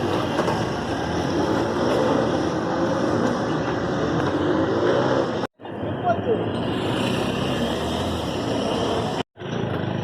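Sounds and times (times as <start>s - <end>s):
motorcycle engines running: 0.0s - 10.0s.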